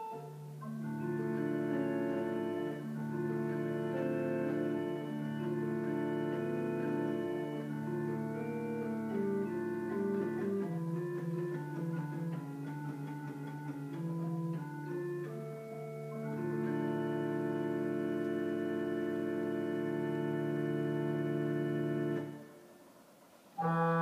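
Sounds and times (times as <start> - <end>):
pipe organ playing slow chords: 0.0 - 24.0.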